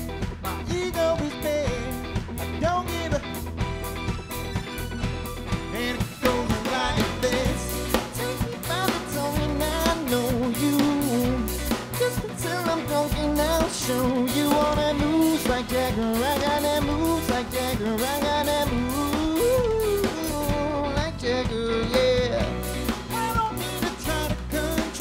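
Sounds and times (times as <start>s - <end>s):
man singing: 0.0s - 3.5s, 5.5s - 25.0s
bass guitar: 0.0s - 25.0s
drum kit: 0.0s - 25.0s
electric guitar: 0.0s - 25.0s.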